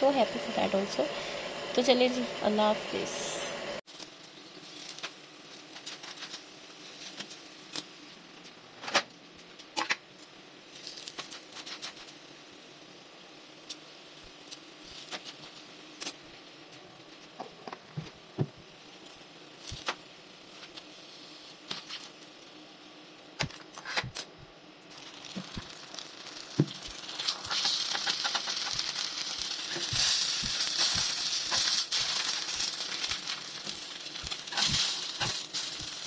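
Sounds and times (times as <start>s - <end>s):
flatbread sizzling on griddle: 3.8s - 24.1s, 24.9s - 36.0s.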